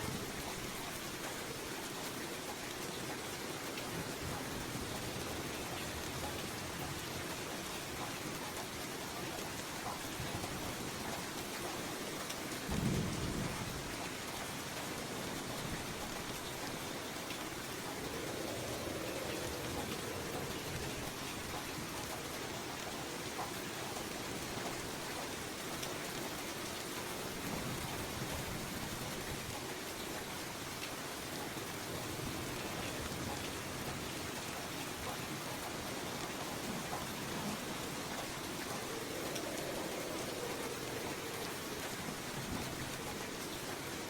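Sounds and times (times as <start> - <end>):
rain falling: 0.0 - 44.0.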